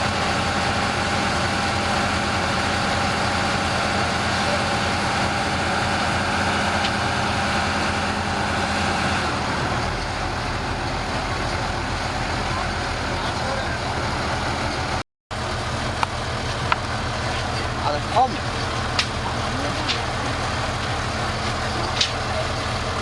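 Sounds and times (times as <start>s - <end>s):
bulldozer engine idling: 0.0s - 23.0s.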